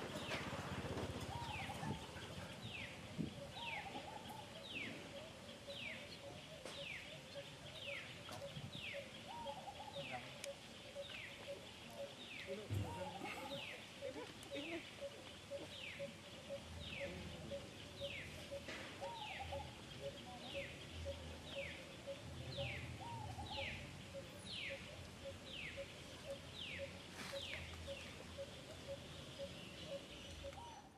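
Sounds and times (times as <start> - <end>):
bird calling: 1.3 - 30.9.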